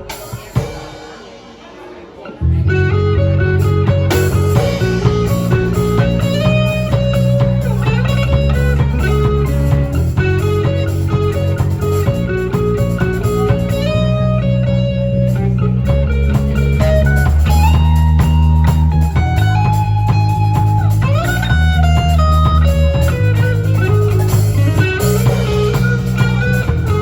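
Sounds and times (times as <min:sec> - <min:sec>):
guitar melody: 0:00.0 - 0:27.0
sustained low bass notes: 0:02.4 - 0:27.0.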